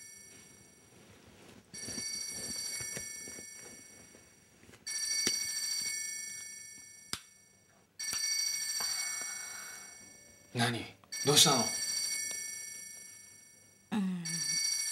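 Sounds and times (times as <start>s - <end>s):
mobile phone ringing: 1.7s - 14.9s.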